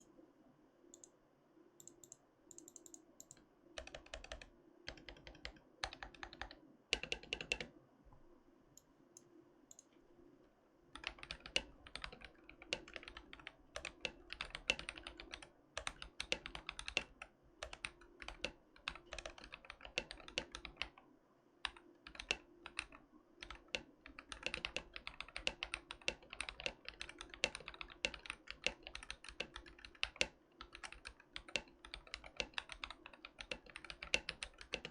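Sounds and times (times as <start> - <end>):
mechanical keyboard typing: 1.8 - 7.7, 10.9 - 21.0, 21.6 - 34.9.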